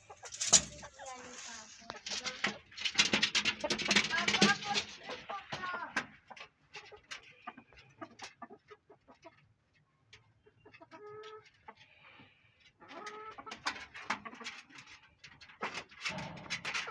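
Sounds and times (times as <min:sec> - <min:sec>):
hen clucking: 0:00.0 - 0:09.5, 0:10.2 - 0:15.0.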